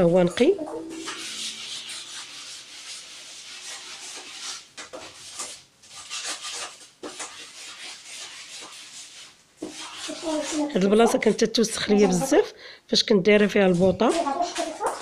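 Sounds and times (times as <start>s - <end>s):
mop scrubbing ceramic tiles: 0.0s - 12.4s, 13.4s - 15.0s.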